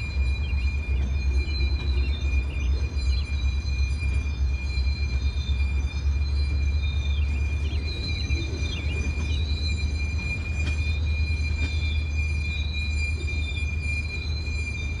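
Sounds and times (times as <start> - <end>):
freight train rumbling past: 0.0 - 15.0
high-pitched wheel squeal: 0.0 - 15.0.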